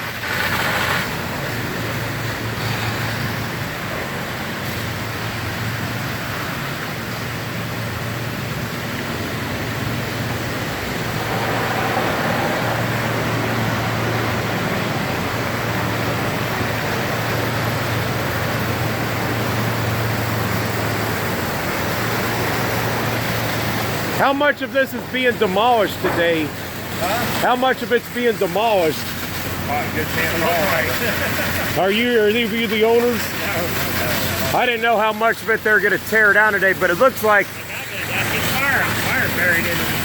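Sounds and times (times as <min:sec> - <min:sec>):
broad rush of noise: 0:00.0 - 0:40.0
diesel engine running: 0:00.0 - 0:40.0.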